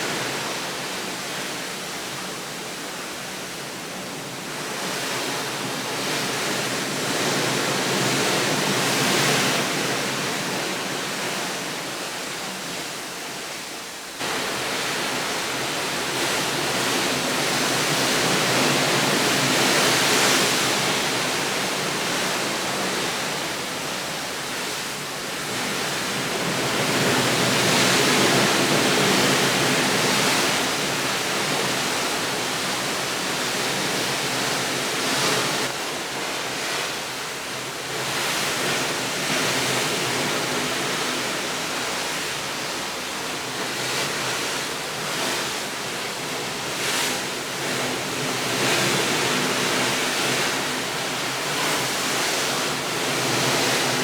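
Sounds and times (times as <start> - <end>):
rushing water: 4.4 - 54.0.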